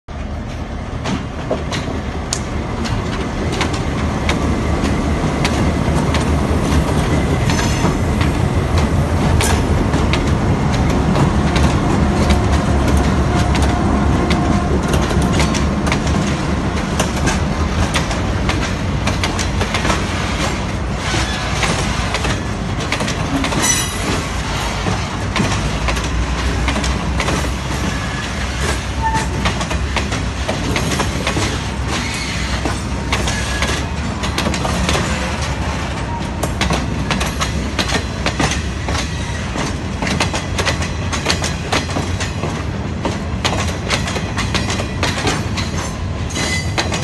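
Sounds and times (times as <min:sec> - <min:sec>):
diesel locomotive passing: 0:00.1 - 0:47.0
wheels clicking over rail joints: 0:00.3 - 0:47.0.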